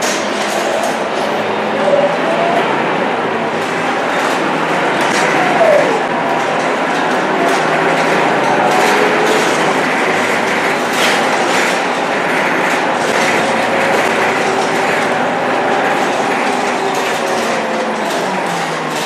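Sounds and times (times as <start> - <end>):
bus body rattles: 0.0 - 19.0
bus engine and driveline whine: 0.0 - 19.0
road noise: 0.0 - 19.0.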